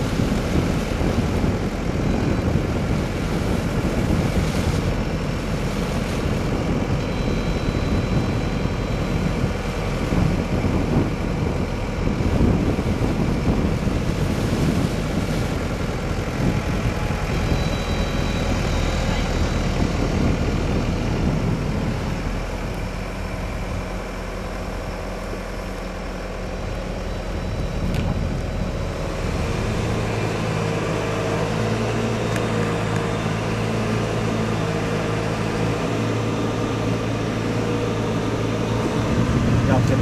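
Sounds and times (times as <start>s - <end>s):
diesel engines running: 0.0s - 40.0s.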